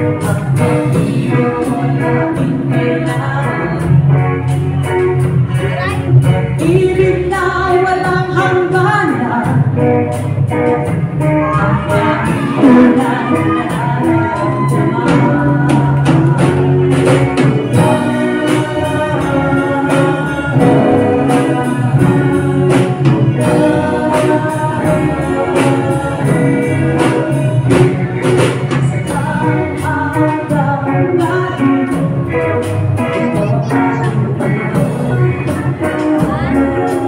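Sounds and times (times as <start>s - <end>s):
person singing: 0.0s - 9.8s, 11.2s - 37.0s
bass guitar: 0.0s - 37.0s
drum kit: 0.0s - 37.0s
electric guitar: 0.0s - 37.0s
keyboard: 0.0s - 37.0s.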